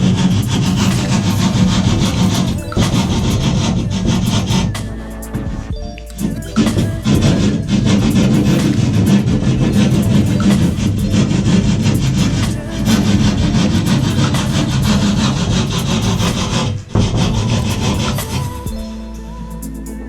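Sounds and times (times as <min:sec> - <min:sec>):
hand tool scraping drywall: 0:00.0 - 0:05.6, 0:06.2 - 0:18.7
background music: 0:00.0 - 0:20.0.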